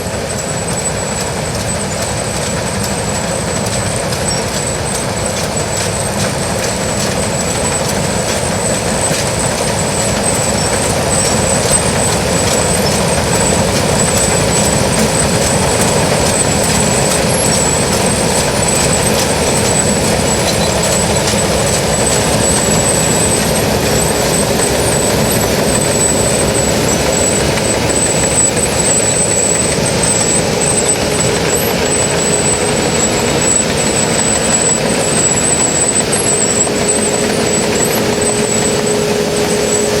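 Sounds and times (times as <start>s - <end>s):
combine harvester running: 0.0s - 40.0s
high machine whine: 0.0s - 40.0s.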